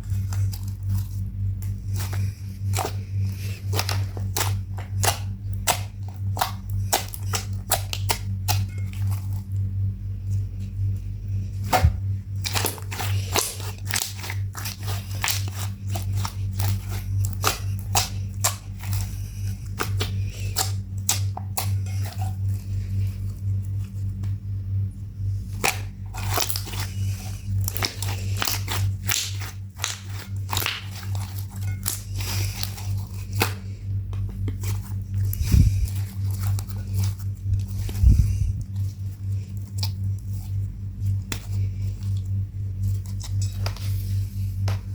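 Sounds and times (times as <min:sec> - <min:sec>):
slime squished by hand: 0:00.0 - 0:09.6, 0:11.6 - 0:24.4, 0:25.5 - 0:44.9
steady low hum: 0:00.0 - 0:44.9.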